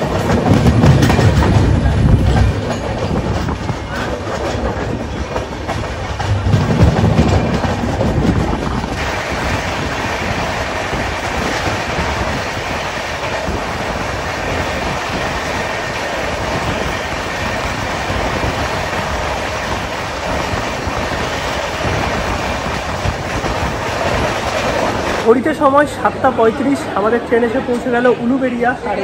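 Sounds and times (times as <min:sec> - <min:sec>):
train wheels on rails: 0:00.0 - 0:29.0.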